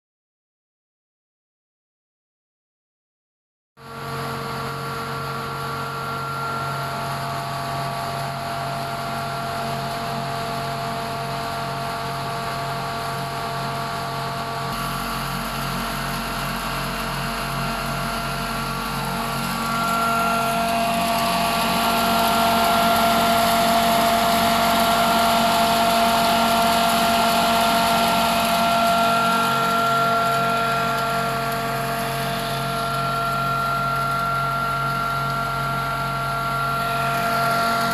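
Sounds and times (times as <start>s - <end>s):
flour mill and motor humming: 3.8s - 37.9s.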